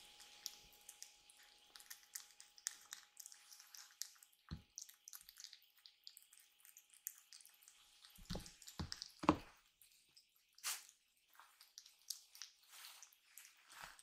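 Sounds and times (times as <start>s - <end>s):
kitten lapping and smacking: 0.4s - 13.7s.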